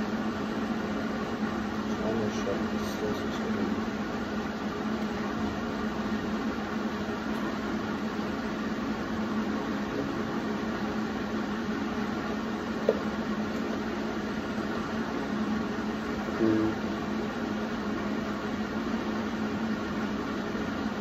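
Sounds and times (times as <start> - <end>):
machinery hum: 0.0 - 21.0.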